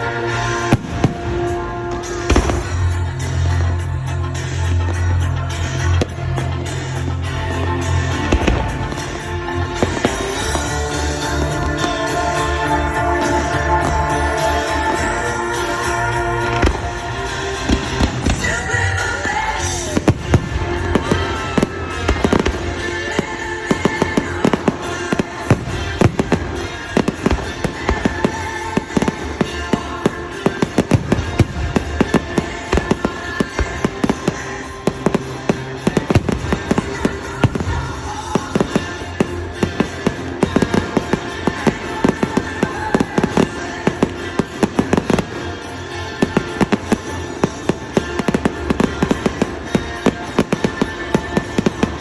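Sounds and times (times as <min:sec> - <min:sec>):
fireworks bangs and crackles: 0:00.0 - 0:52.0
music playing: 0:00.0 - 0:52.0.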